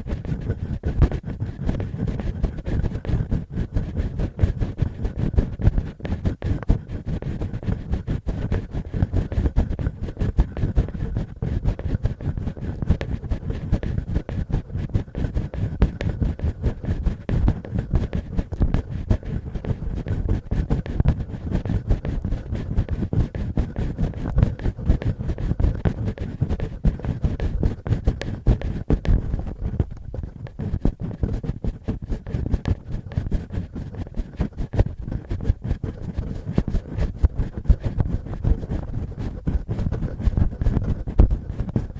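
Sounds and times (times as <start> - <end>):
fingernails scratching on microphone: 0.0 - 41.9.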